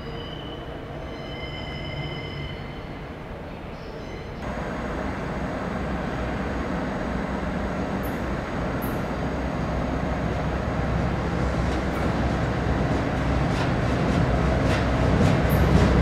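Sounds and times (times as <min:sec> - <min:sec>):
railcar rumble: 0:00.0 - 0:16.0.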